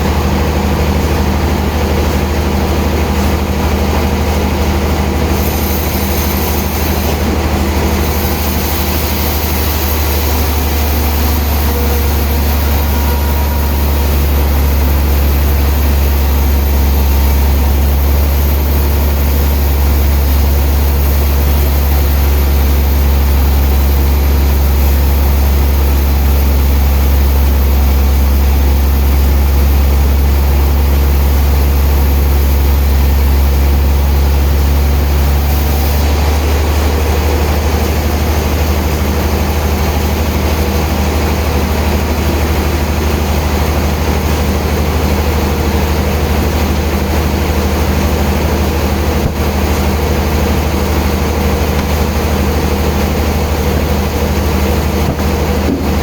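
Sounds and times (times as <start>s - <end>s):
sawmill machinery deep hum: 0.0s - 56.0s.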